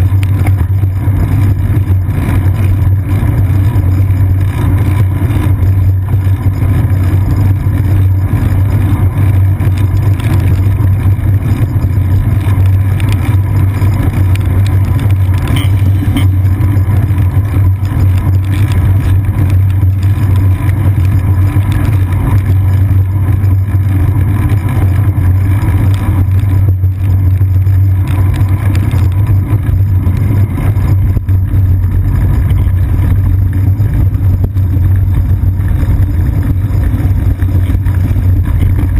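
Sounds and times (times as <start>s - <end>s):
bicycle rolling on wet pavement: 0.0s - 38.9s
wind noise: 0.0s - 38.9s.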